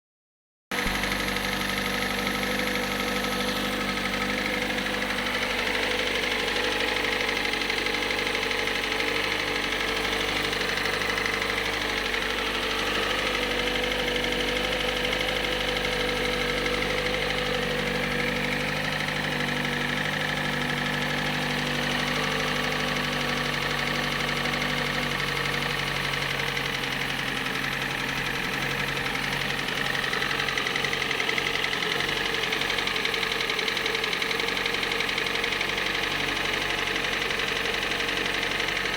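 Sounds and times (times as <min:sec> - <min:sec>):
engine running with rhythmic knock: 0:00.7 - 0:38.9.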